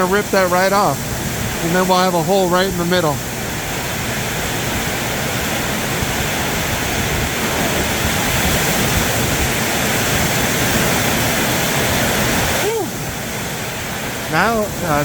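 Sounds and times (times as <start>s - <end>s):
heavy rain on a metal roof: 0.0s - 15.0s.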